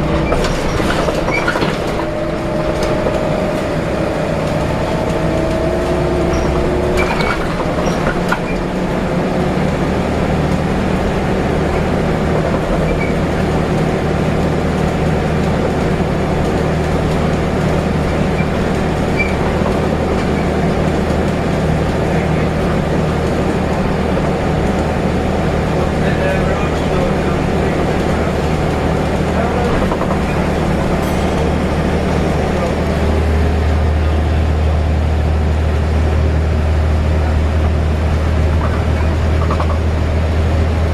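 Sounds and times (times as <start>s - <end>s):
bus engine drone: 0.0s - 40.9s.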